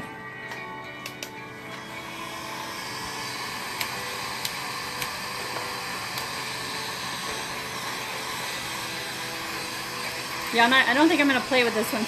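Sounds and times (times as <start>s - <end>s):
small electric motor running: 1.6s - 12.0s.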